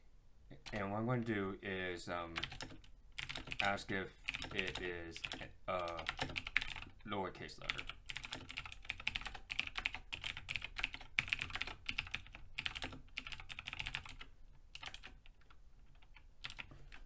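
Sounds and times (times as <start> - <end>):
computer keyboard typing: 2.4 - 7.0, 7.6 - 17.0.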